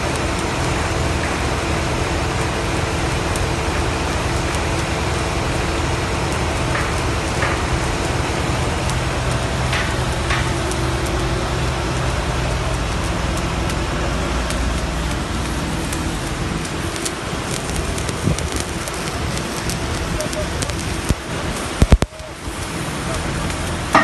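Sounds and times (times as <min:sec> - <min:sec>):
welding arc crackling hiss: 0:00.0 - 0:24.0.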